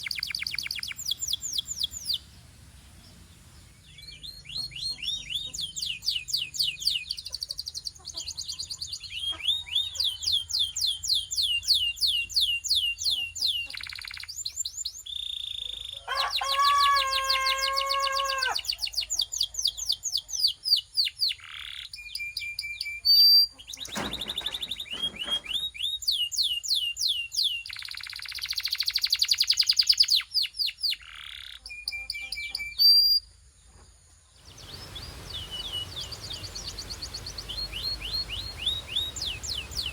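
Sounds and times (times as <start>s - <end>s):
canary singing trills: 0.0s - 33.3s, 34.4s - 39.9s.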